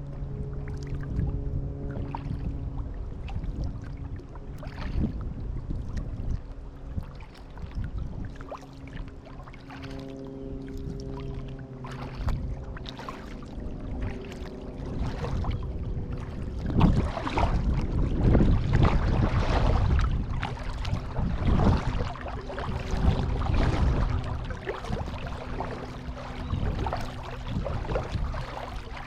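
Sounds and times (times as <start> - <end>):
paddle splashing water: 0.0 - 29.0.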